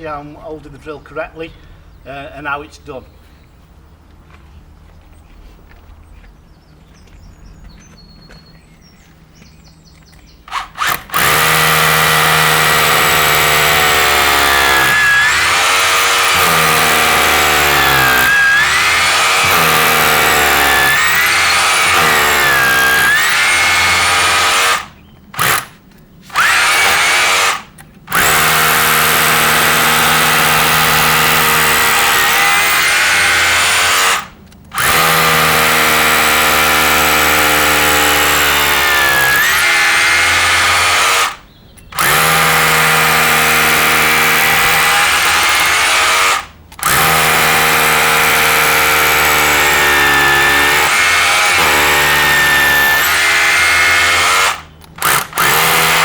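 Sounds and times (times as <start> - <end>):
electric drill boring into brick: 10.5 - 41.4, 42.0 - 56.0.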